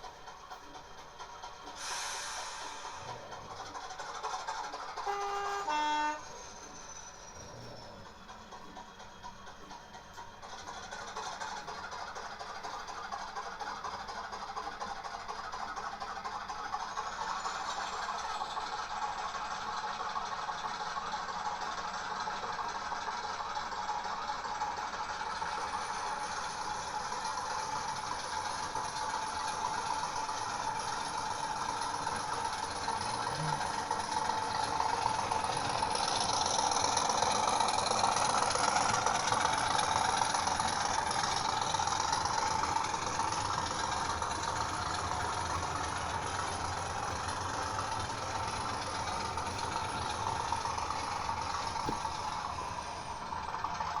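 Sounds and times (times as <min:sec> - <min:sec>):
diesel engine sound from small speaker: 0:00.0 - 0:54.0.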